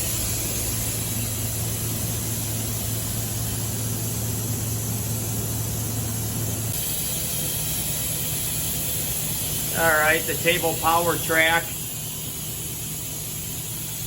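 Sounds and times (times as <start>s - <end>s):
hiss: 0.0s - 14.0s
machine humming: 0.0s - 14.0s.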